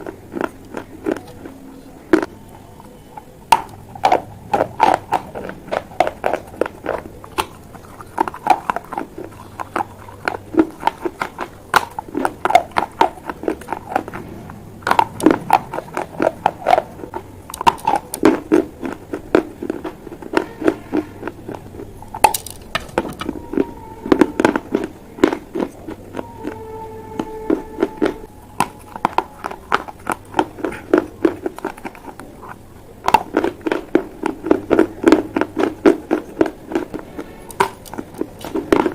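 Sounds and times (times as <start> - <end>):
crunching clay pieces being chewed: 0.0 - 38.9.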